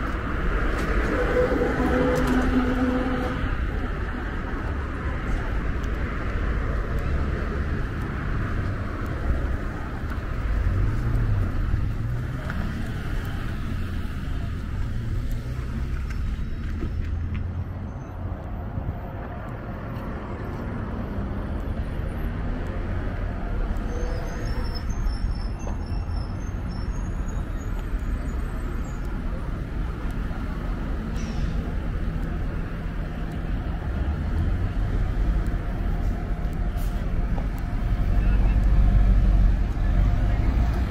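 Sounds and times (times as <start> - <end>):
car engines passing: 0.0 - 40.9.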